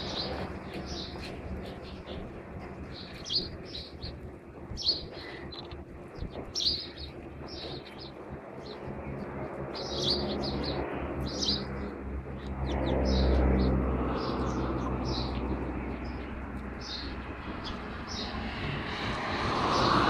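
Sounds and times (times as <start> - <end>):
low engine hum: 0.0 - 20.0
sparrows chirping: 0.0 - 20.0.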